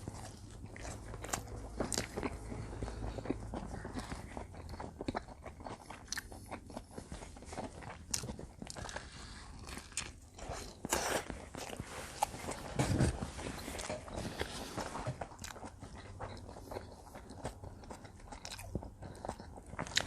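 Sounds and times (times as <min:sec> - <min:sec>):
wet chewing: 0:00.0 - 0:20.0.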